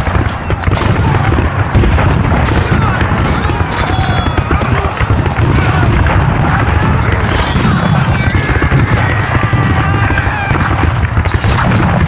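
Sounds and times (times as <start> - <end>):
gunfire and booms: 0.0 - 12.0
crowd of men shouting: 0.1 - 11.0.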